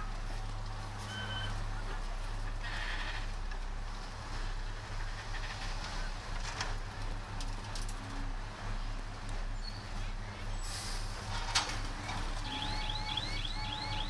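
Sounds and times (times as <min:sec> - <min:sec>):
heavy diesel engine at low revs: 0:00.0 - 0:14.0.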